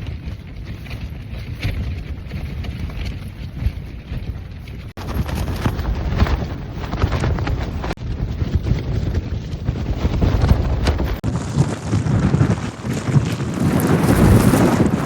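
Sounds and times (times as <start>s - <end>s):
tent fabric flapping: 0.0s - 15.0s
wind rumble on microphone: 0.0s - 15.0s.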